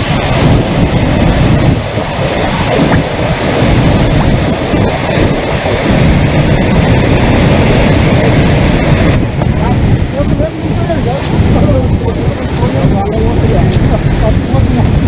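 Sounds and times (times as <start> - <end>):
floodwater rushing over weir: 0.0 - 15.0
wind buffeting microphone: 0.0 - 15.0.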